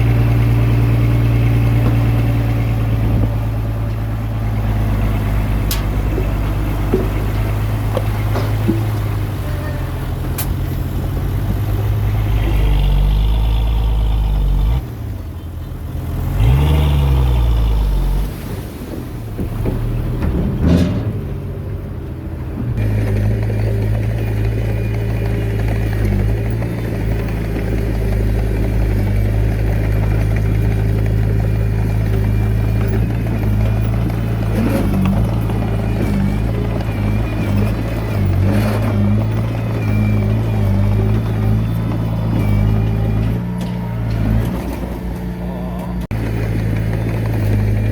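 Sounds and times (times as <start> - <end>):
heavy diesel engine revving: 0.0 - 47.9.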